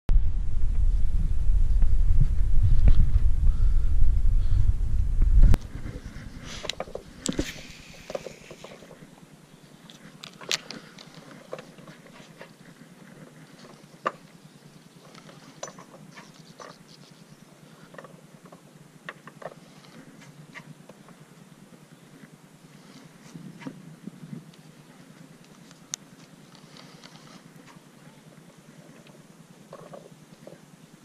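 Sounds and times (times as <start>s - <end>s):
faint hiss: 5.6s - 31.0s.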